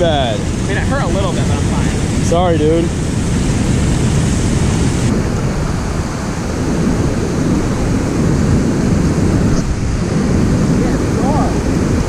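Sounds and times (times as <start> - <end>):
river water rushing: 0.0 - 12.0
wind on microphone: 0.0 - 12.0.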